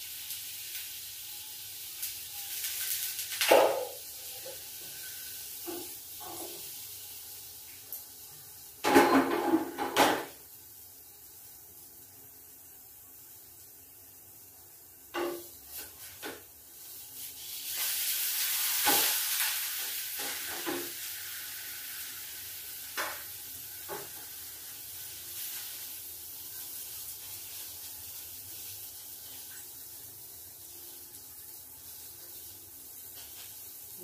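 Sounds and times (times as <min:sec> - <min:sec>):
batter sizzling in frying pan: 0:00.0 - 0:34.0.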